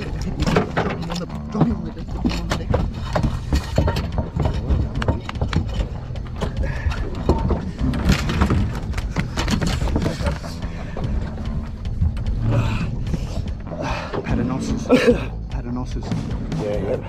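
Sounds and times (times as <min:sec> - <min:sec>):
fishing gear clicking and knocking: 0:00.0 - 0:17.0
steady low rumble: 0:00.0 - 0:17.0.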